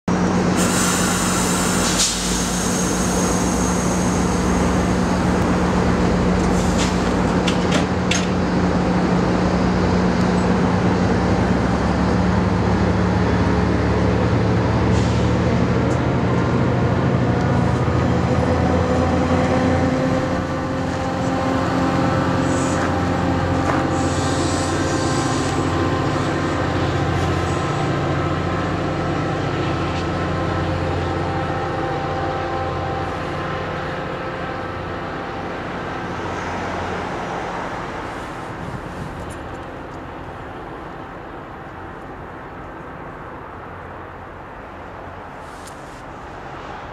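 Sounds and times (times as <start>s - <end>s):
diesel locomotive engine hum: 0.0s - 46.9s.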